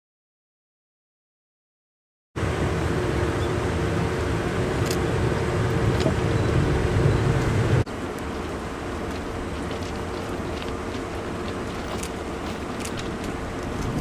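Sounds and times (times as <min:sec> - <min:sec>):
electric train rumbling: 0:02.4 - 0:14.0
steady hum: 0:02.4 - 0:14.0.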